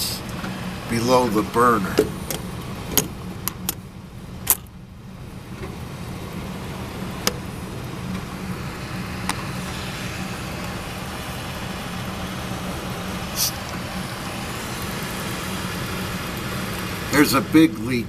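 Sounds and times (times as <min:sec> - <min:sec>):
oil burner motor hum: 0:00.0 - 0:18.0.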